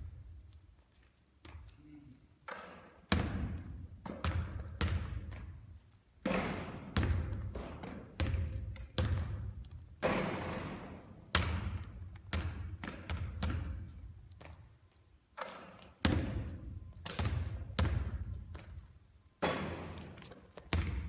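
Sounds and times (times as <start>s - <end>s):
basketball bouncing on indoor court: 2.4s - 14.7s, 15.4s - 21.0s.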